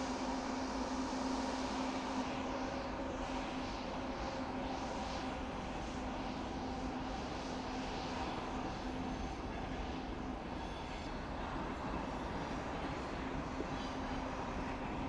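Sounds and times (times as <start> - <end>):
idling trains hum and hiss: 0.0 - 15.0.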